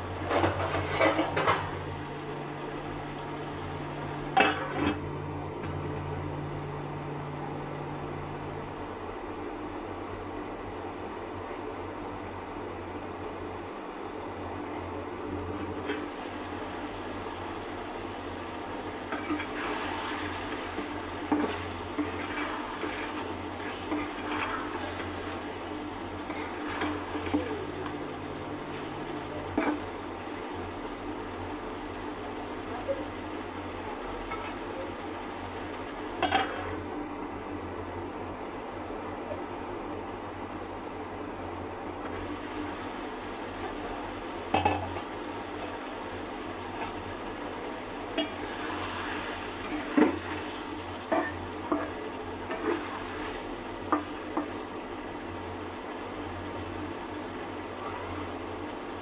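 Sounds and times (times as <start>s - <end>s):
steady hum and hiss: 0.0s - 59.0s.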